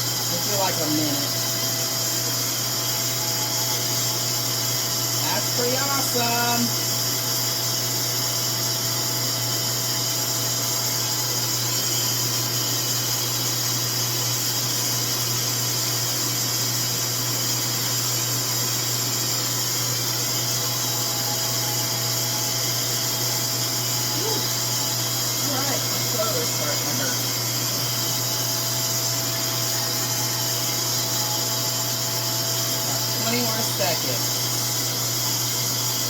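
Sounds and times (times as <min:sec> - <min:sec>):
hair dryer whirring: 0:00.0 - 0:36.0.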